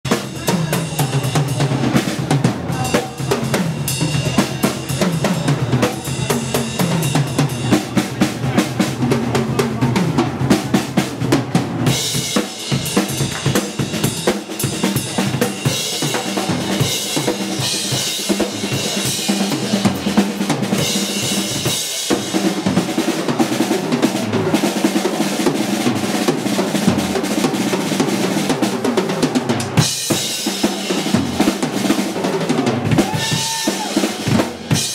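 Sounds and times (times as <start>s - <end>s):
drum kit playing: 0.0s - 34.9s.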